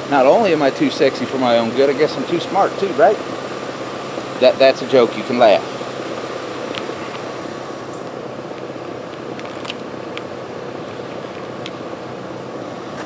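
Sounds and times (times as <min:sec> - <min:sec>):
air conditioner compressor hum: 0:00.0 - 0:13.0
condenser fan whoosh: 0:00.0 - 0:13.0.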